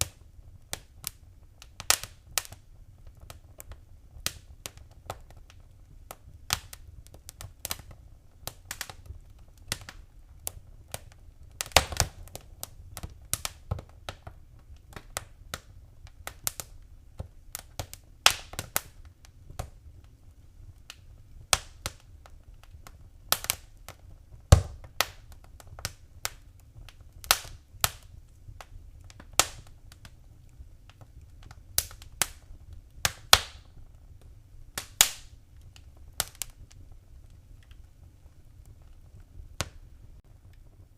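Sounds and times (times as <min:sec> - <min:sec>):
low rumble of burning: 0:00.0 - 0:40.9
wood fire crackling: 0:00.0 - 0:40.9.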